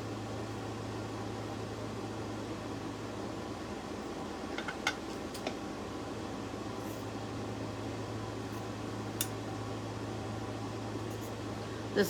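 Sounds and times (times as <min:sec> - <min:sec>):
steady low fan hum: 0:00.0 - 0:12.0.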